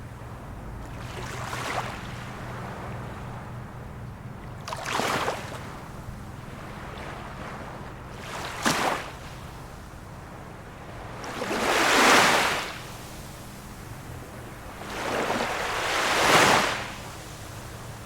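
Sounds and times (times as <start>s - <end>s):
small waves lapping on shore: 0.0s - 18.0s.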